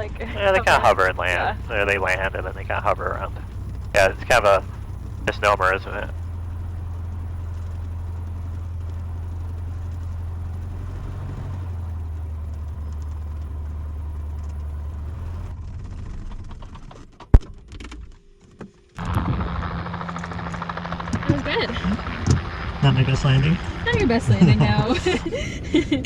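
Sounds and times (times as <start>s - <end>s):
small plane engine droning: 0.0s - 26.0s.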